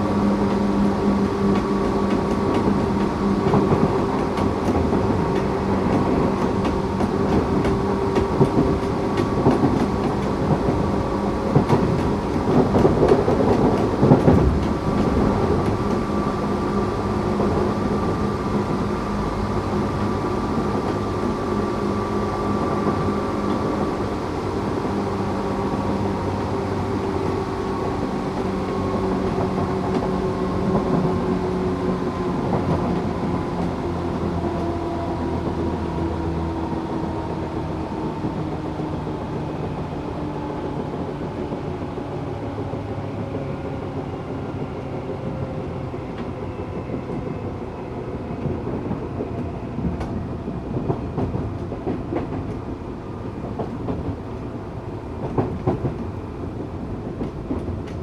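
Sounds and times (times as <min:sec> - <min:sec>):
electric train motor and gear hum: 0:00.0 - 0:58.0
wheel and rail noise: 0:00.0 - 0:58.0.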